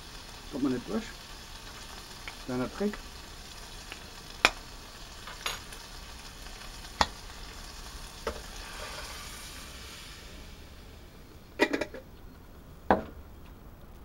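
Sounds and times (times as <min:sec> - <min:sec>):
bacon sizzling in a pot: 0:00.0 - 0:12.0.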